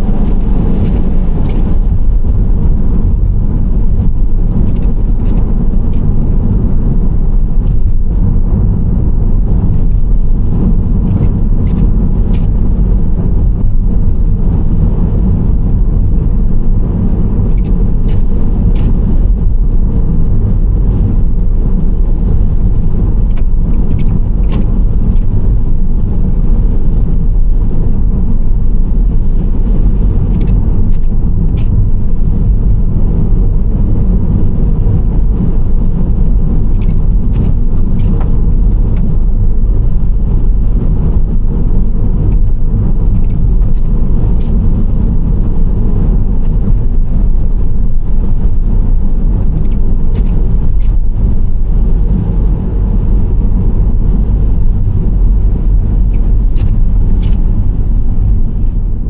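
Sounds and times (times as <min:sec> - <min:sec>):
minivan driving rumble: 0:00.0 - 0:59.0.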